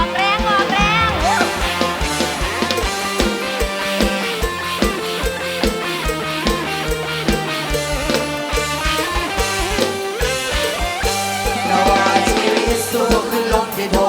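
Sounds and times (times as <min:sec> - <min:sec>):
bass: 0:00.0 - 0:14.0
guitar: 0:00.0 - 0:14.0.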